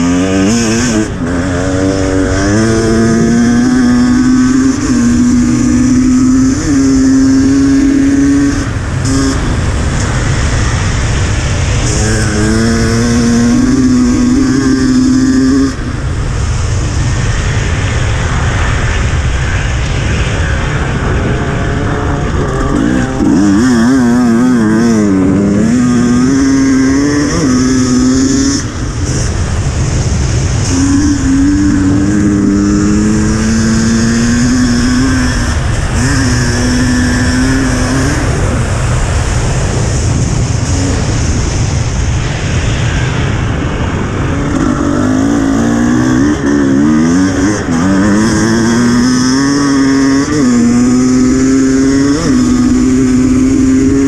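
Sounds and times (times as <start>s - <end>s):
dirt bike engine running hard: 0.0s - 54.0s
gravel noise: 0.0s - 54.0s
rushing wind: 0.0s - 54.0s.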